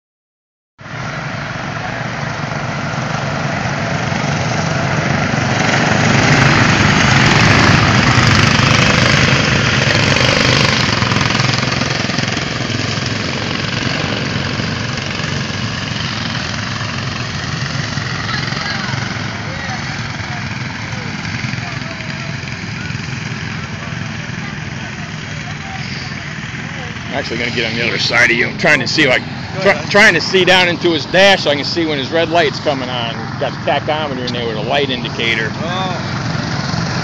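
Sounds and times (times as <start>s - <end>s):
race car engines: 0.8s - 37.0s.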